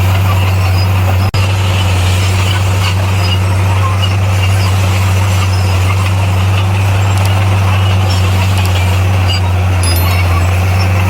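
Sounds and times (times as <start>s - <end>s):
bulldozer diesel engine: 0.0s - 11.0s.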